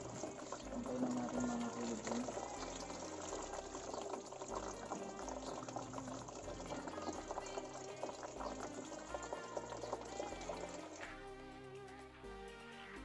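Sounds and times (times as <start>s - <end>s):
liquid draining into plastic basin: 0.0s - 11.2s.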